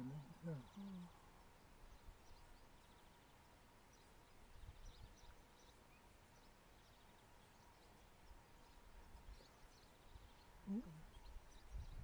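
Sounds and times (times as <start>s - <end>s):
distant bird chirps: 0.0s - 12.0s.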